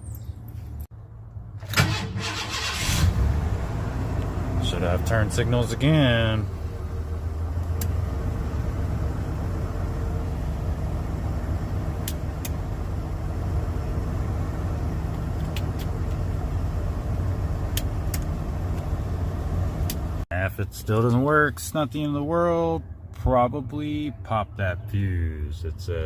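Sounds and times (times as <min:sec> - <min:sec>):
truck engine idling: 0:00.1 - 0:26.0.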